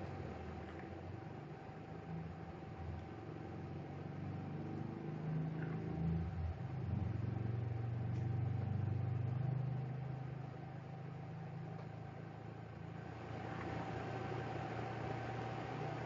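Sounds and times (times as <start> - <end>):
faint hum: 0.0 - 16.0
low engine-like drone: 0.0 - 16.0.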